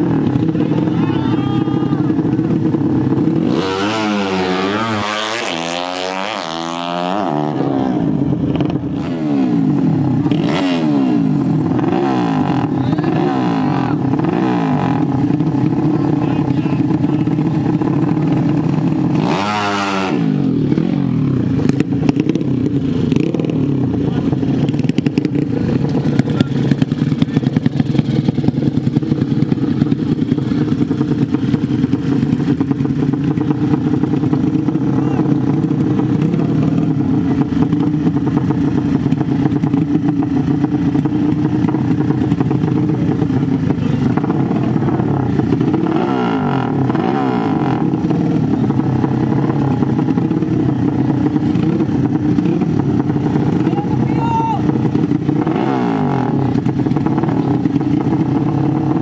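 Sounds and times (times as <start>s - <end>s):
engine revving: 0.0s - 59.0s
motorcycle engines idling: 0.0s - 59.0s.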